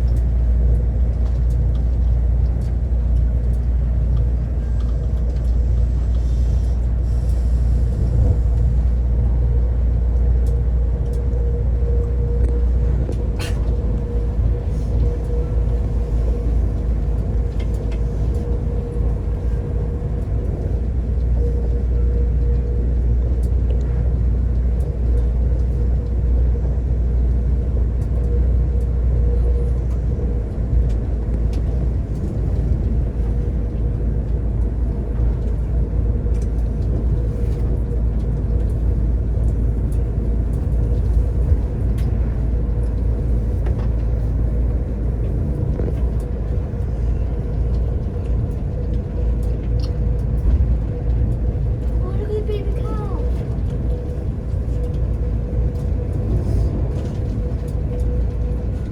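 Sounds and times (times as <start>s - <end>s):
train rumble: 0.0s - 58.9s.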